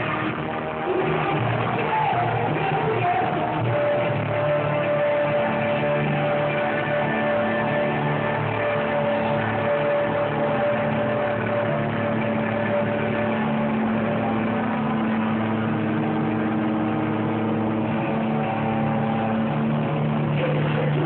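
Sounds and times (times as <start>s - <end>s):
amplified rock band: 0.0s - 21.0s
crowd noise: 0.0s - 21.0s
low guitar and bass notes: 0.0s - 21.0s.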